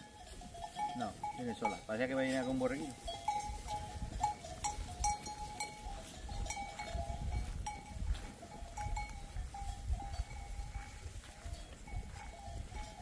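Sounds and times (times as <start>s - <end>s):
sheep bells clinking: 0.0s - 13.0s.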